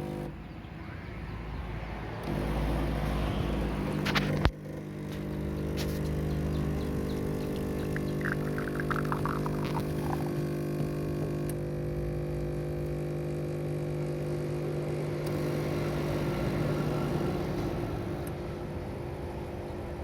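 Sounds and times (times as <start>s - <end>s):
espresso machine pump humming: 0.0s - 0.3s, 2.2s - 20.0s.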